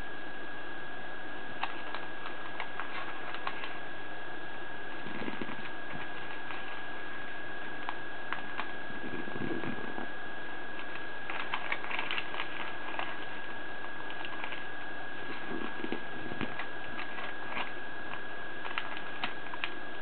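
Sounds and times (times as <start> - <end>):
thin whine: 0.0 - 20.0
paper crinkling and creasing: 1.6 - 3.9, 4.8 - 20.0.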